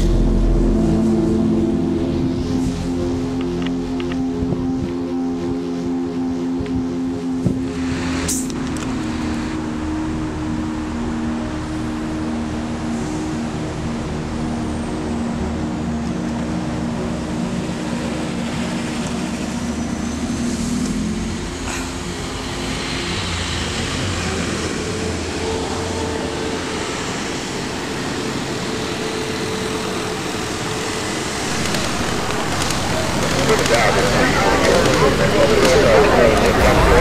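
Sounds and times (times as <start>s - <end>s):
engine hum: 0.0s - 37.0s
passing cars: 6.4s - 37.0s.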